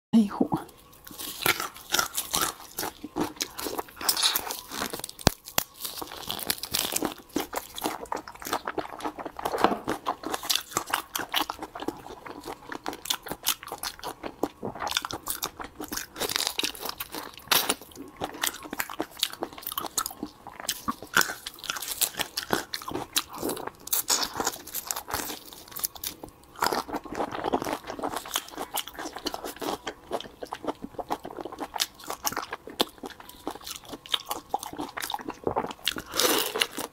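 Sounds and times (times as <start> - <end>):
chewing: 0.6 - 36.9
prawn shells cracking and crunching: 1.1 - 36.9.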